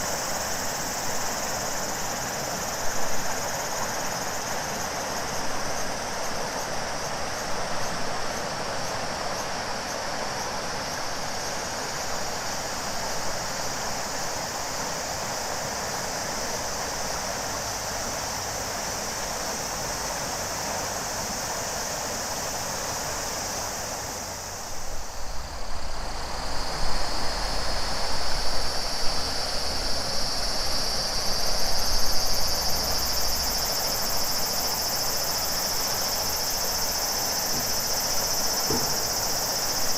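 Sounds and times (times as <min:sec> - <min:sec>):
cicadas shrilling: 0:00.0 - 0:39.9
river water flowing: 0:00.0 - 0:39.9.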